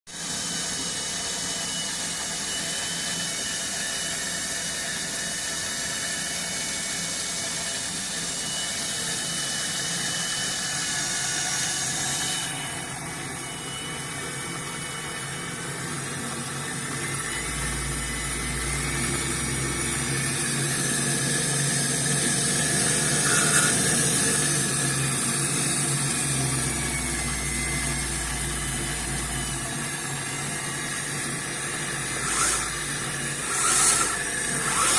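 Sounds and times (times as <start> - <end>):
lathe motor whining: 0.2 - 34.9.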